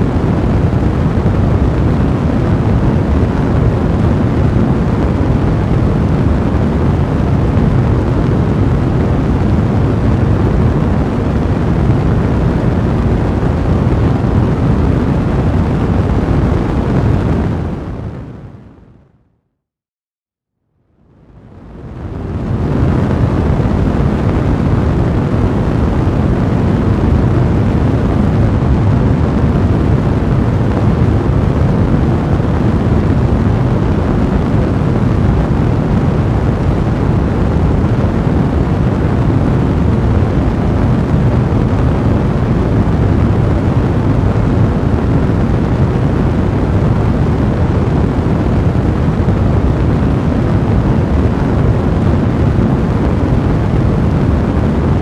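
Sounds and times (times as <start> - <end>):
fire blazing: 0.0 - 18.4, 21.9 - 55.0.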